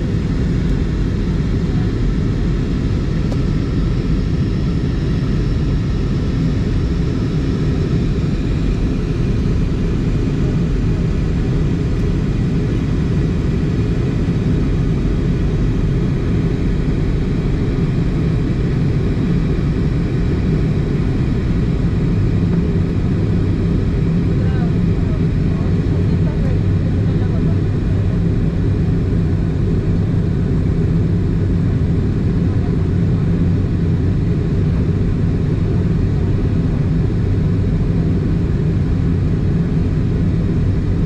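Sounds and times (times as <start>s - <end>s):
airliner cabin engine drone: 0.0s - 41.0s.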